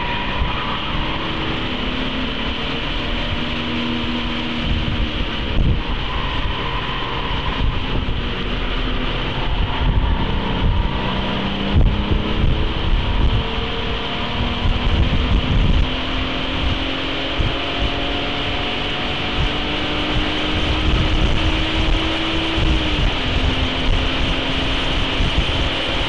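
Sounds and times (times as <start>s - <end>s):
car engine accelerating: 0.0s - 26.0s
wind and road rumble: 0.0s - 26.0s.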